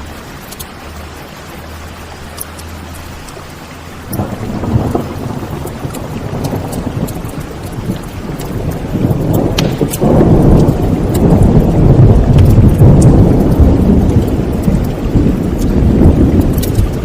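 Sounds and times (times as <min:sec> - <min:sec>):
fireplace fire crackling: 0:00.0 - 0:17.0
steady rain: 0:00.0 - 0:17.0
thunder rumbling: 0:00.9 - 0:17.0.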